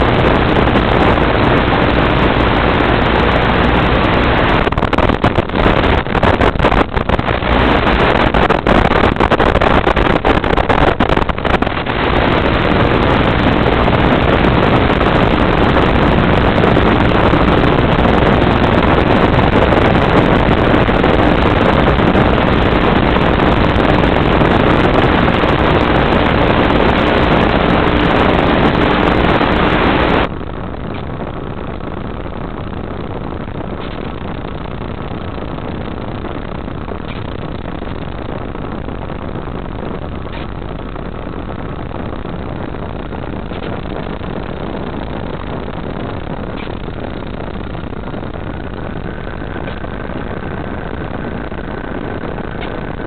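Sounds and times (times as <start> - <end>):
electric motor and propeller: 0.0 - 38.9, 39.8 - 53.0
crackling: 0.0 - 53.0
faint steady hum: 0.0 - 53.0
rushing air: 0.0 - 53.0.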